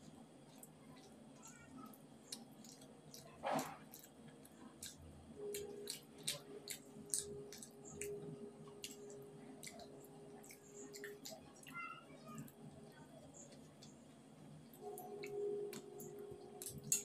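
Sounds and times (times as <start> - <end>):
chewing: 0.0 - 12.6, 14.7 - 17.0
eating with hands: 0.0 - 17.0.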